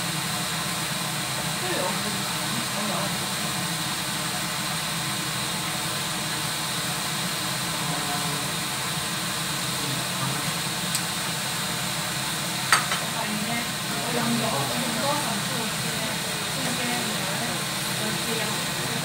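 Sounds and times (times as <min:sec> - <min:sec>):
steady hiss of cooking: 0:00.0 - 0:19.0.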